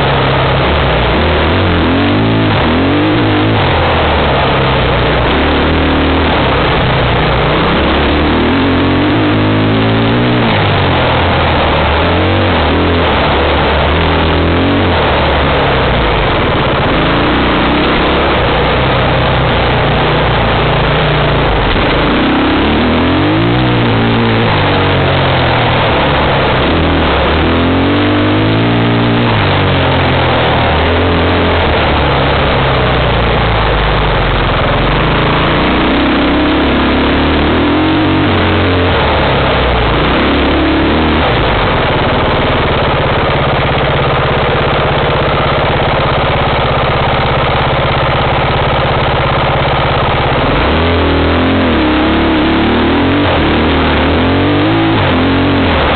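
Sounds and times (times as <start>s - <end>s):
constant rushing noise: 0.0s - 55.9s
off-road vehicle engine revving: 0.0s - 55.9s.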